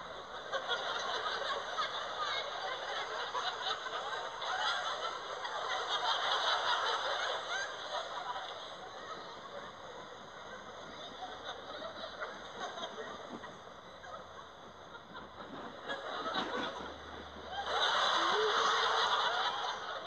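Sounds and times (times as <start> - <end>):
crowd laughing: 0.0 - 20.0.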